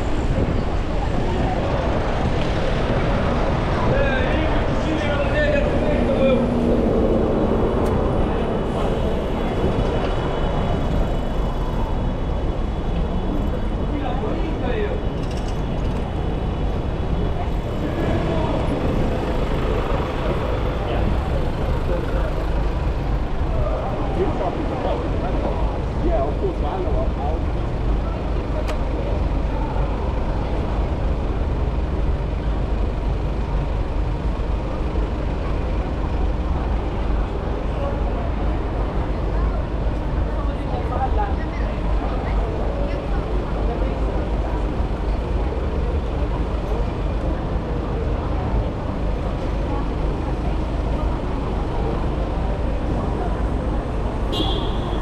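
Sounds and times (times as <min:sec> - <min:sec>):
city road traffic rumble: 0:00.0 - 0:55.0.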